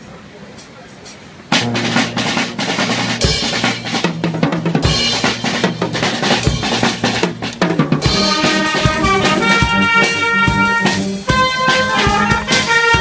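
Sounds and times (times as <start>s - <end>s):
fast drum solo: 0.6s - 13.0s
brass band instruments: 1.5s - 13.0s.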